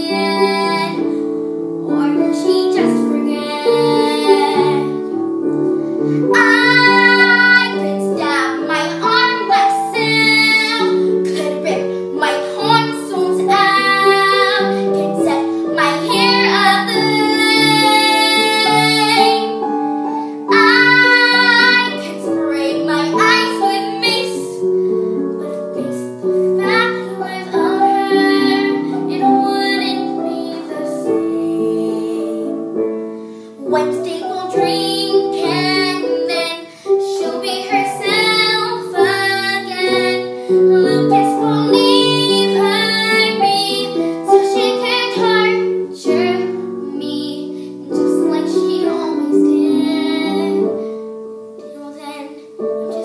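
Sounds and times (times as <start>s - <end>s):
boy singing: 0.0s - 1.0s, 1.8s - 5.2s, 6.2s - 24.7s, 25.4s - 32.6s, 33.6s - 50.8s, 51.6s - 53.0s
piano accompaniment: 0.0s - 53.0s.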